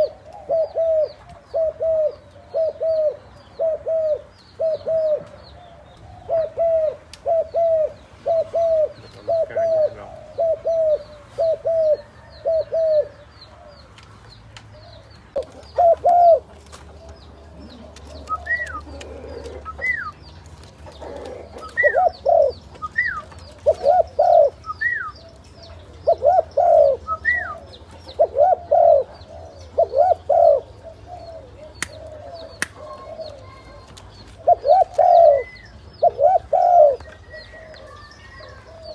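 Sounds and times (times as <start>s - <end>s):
doves cooing: 0.0s - 14.0s, 14.7s - 38.9s
small birds chirping: 0.0s - 38.9s.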